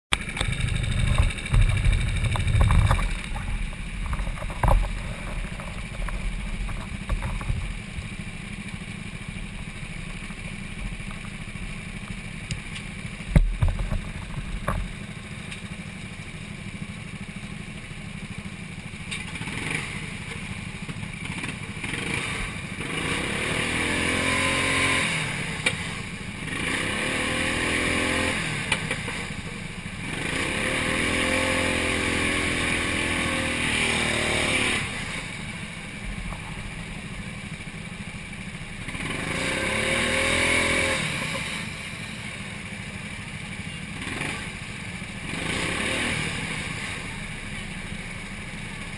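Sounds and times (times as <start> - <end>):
go-kart engines revving: 0.1 - 48.9.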